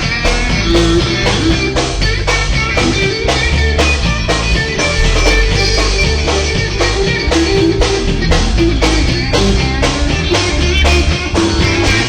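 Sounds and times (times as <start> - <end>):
drum kit beat: 0.0 - 12.0
electric guitar: 0.0 - 12.0.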